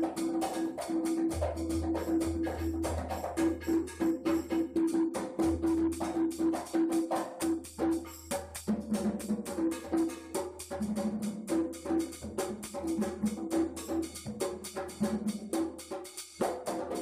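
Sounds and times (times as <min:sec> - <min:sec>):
congas played by hand: 0:00.0 - 0:17.0
sharp clicking percussion strikes: 0:00.0 - 0:17.0.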